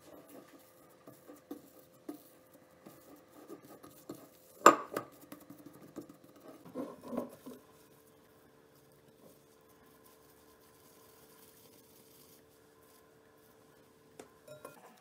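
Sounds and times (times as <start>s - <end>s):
hands working dough: 0.0s - 15.0s.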